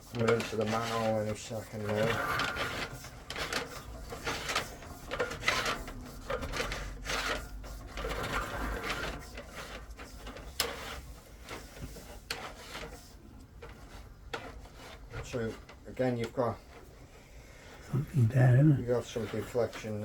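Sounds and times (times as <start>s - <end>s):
cable rubbing and scraping in pipe: 0.0s - 16.9s, 18.8s - 20.0s.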